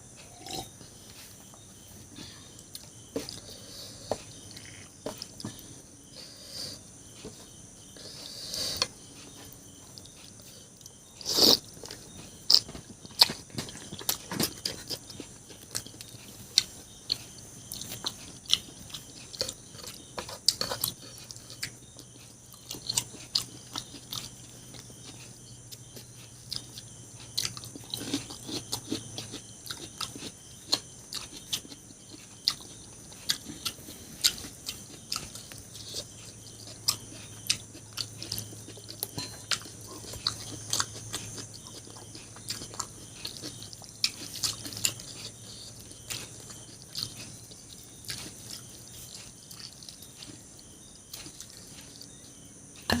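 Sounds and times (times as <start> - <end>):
person chewing food: 0.1 - 53.0.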